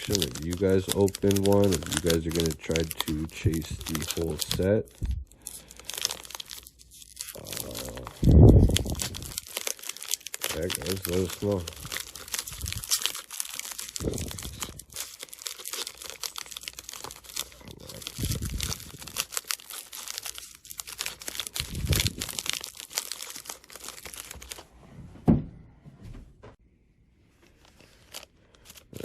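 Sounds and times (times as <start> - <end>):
wrapper crinkling and tearing: 0.0 - 24.7, 27.6 - 29.0.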